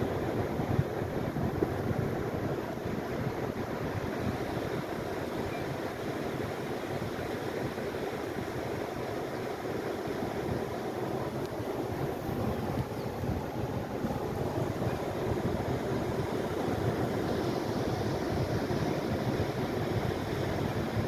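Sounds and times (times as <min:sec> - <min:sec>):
surf washing onto beach: 0:00.0 - 0:21.0
wind rumbling on microphone: 0:00.0 - 0:21.0.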